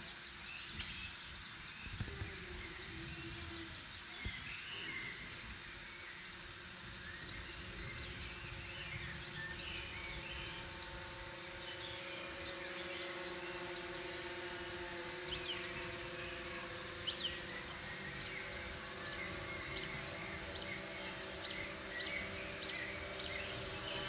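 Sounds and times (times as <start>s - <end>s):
birds chirping and singing: 0.0s - 24.0s
low hum: 0.1s - 24.0s.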